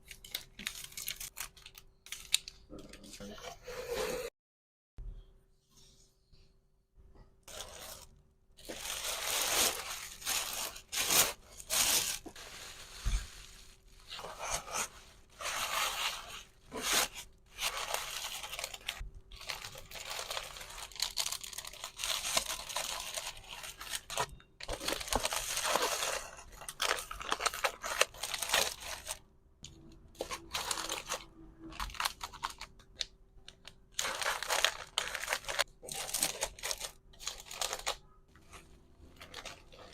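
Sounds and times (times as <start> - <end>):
plastic packaging rustling and tearing: 0.0 - 3.2, 7.5 - 29.2, 30.2 - 39.9.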